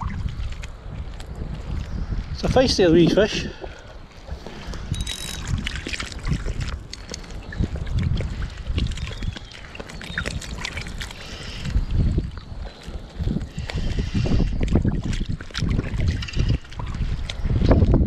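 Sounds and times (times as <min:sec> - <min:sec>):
wind buffeting microphone: 0:00.0 - 0:18.0
small waves lapping and splashing: 0:02.9 - 0:18.0.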